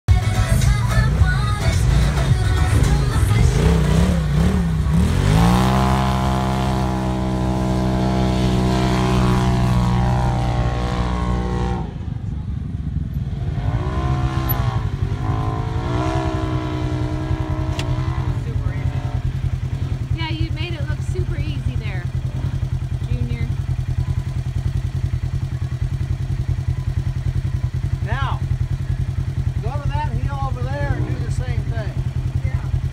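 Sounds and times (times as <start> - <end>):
dune buggy engine revving: 0.3 - 32.9.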